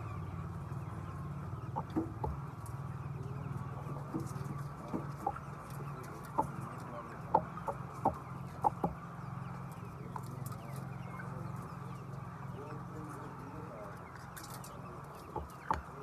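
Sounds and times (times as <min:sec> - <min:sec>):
chickens clucking: 0:00.0 - 0:16.0
chickens squawking: 0:00.0 - 0:16.0.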